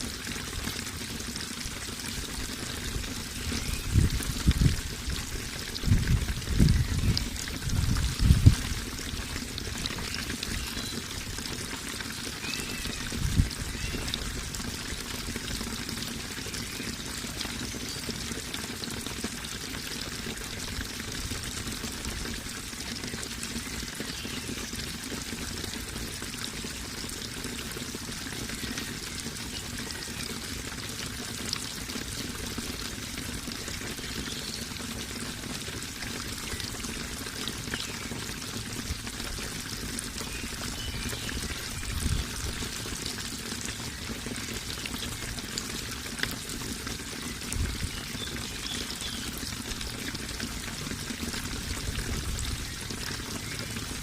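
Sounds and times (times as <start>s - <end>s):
running water pouring: 0.0s - 54.0s.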